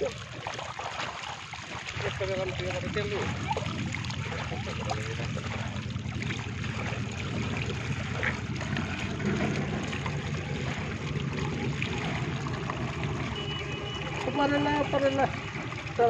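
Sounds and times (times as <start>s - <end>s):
muddy water gushing: 0.0s - 16.0s
water splashing into basket: 0.0s - 16.0s.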